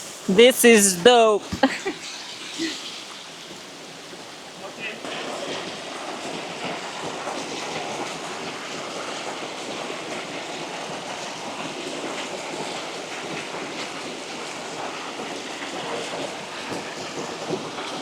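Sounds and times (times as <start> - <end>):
small waterfall rushing: 0.0 - 18.0.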